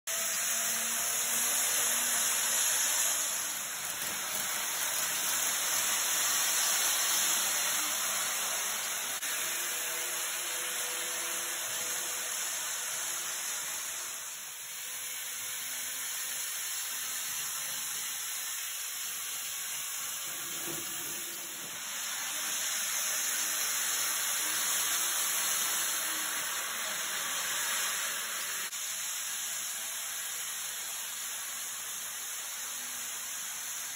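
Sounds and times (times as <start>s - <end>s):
model trains whirring on tracks: 0.1s - 33.9s.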